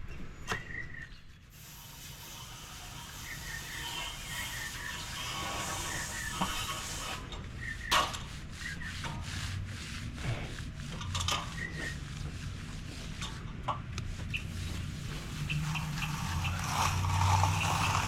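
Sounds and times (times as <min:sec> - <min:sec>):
tools scraping wet concrete: 0:01.5 - 0:18.0.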